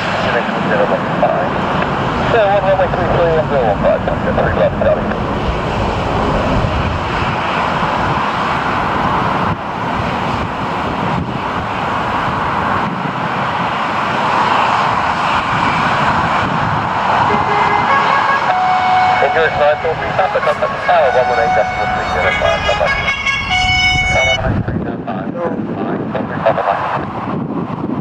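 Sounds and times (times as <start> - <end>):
jet airliner engines running: 0.0 - 28.0.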